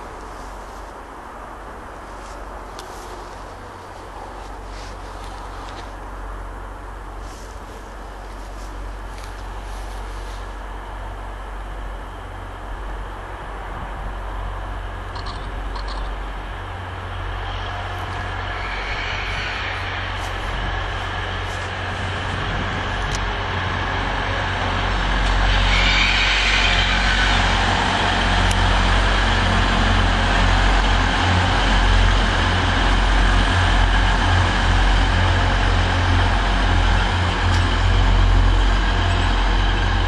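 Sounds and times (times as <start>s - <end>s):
trains passing at speed: 0.0s - 40.0s.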